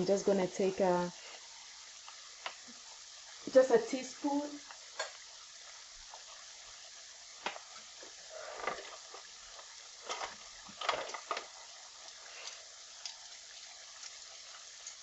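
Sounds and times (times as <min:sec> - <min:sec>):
stew frying in oil: 0:00.0 - 0:15.0.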